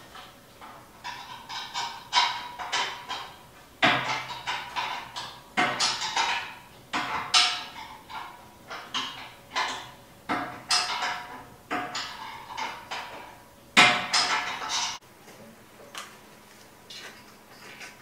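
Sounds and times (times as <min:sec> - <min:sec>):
tool tapping on metal: 0:00.1 - 0:15.0.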